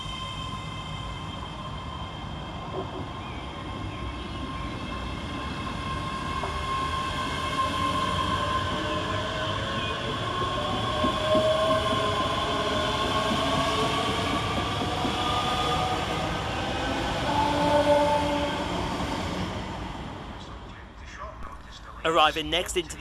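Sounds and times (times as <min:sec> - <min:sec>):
train wheels rumbling on rail: 0:00.0 - 0:20.6.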